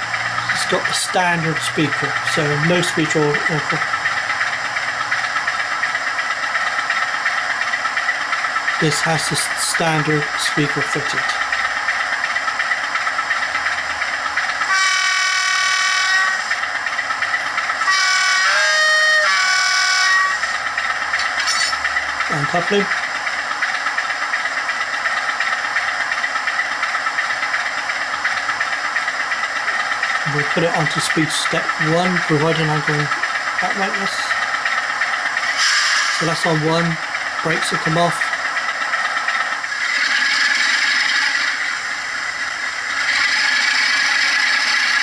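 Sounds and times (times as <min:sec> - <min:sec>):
model locomotive diesel engine idling: 0:00.0 - 0:45.0.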